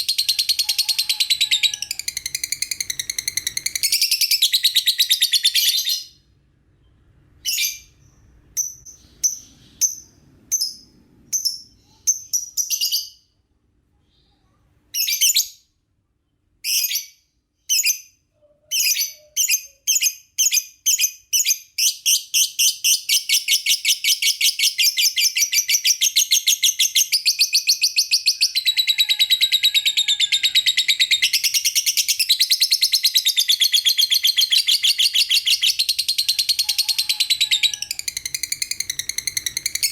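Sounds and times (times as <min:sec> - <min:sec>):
lovebird chirping: 0:00.0 - 0:13.3, 0:16.6 - 0:39.9.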